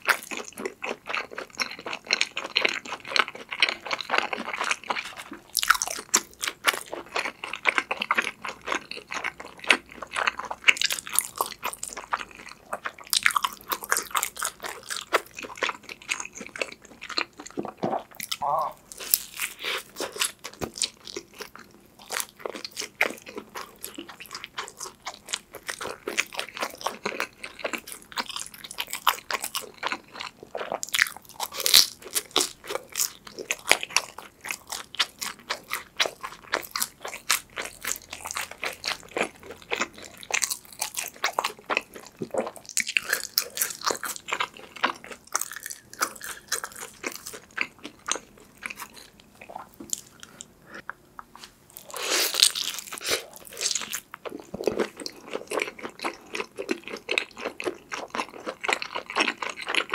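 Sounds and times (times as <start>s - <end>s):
chewing and biting pizza: 0.0s - 59.9s.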